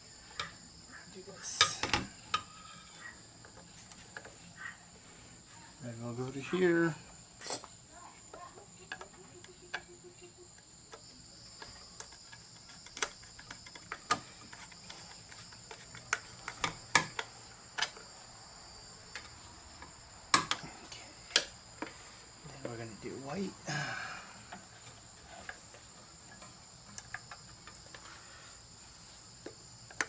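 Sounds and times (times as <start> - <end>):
insect trill: 0.0 - 30.0.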